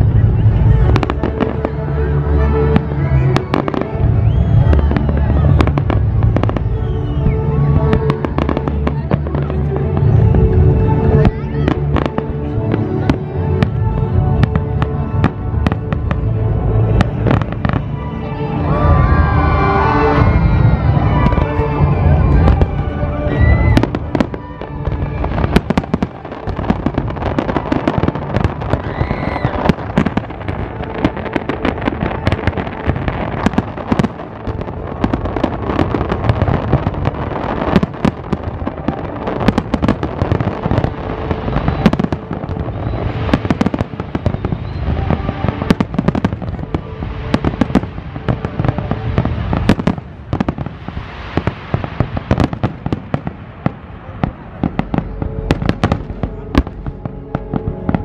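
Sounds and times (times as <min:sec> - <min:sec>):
fireworks bursts and crackle: 0:00.0 - 0:58.0.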